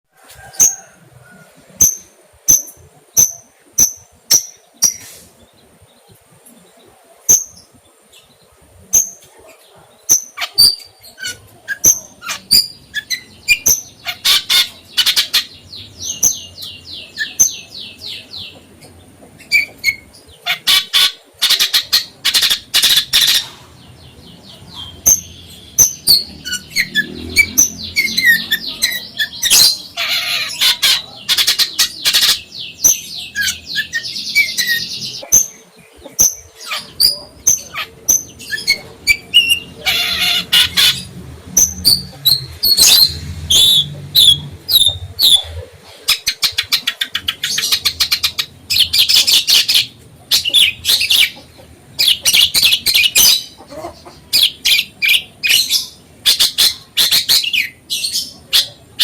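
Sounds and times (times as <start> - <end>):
songbird chirping and trilling: 0.2 - 59.0.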